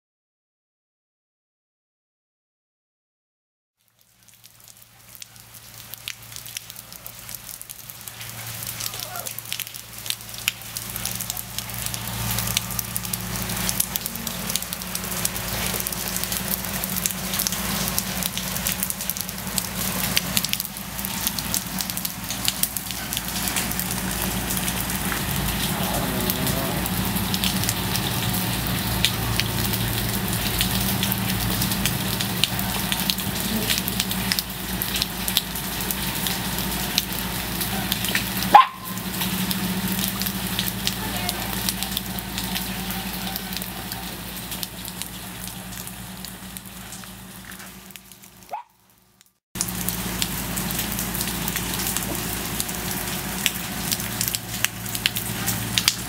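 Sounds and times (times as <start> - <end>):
rain on wet pavement: 3.8 - 56.0.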